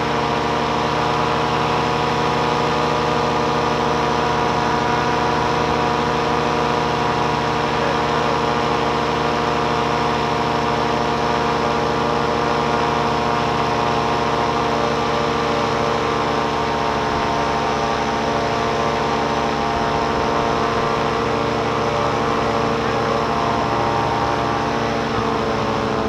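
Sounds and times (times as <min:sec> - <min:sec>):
paramotor engine droning: 0:00.0 - 0:26.0.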